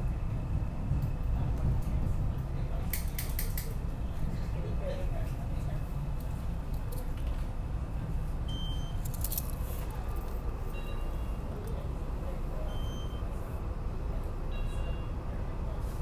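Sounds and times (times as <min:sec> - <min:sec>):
rail car rumbling: 0:00.0 - 0:16.0.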